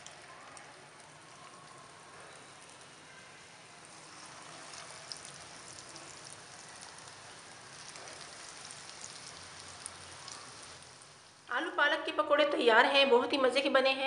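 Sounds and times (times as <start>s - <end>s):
food deep-frying in hot oil: 0.0s - 11.7s.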